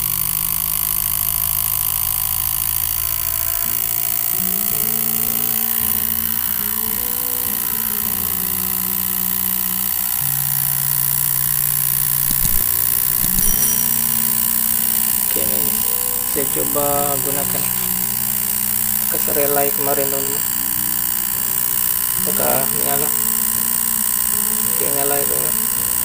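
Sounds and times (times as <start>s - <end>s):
reed switch buzzing: 2.6s - 26.0s.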